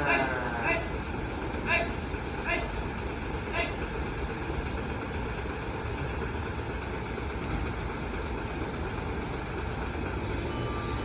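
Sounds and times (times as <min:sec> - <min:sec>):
large vehicle engine idling: 0:00.0 - 0:11.0.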